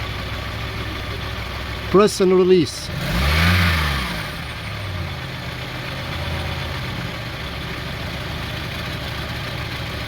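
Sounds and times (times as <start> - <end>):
car engine revving and idling: 0.0 - 10.0.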